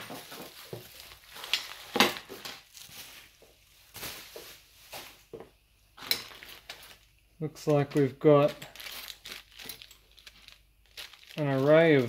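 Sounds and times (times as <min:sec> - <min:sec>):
plastic bags crinkling: 0:00.0 - 0:05.4, 0:06.0 - 0:12.0.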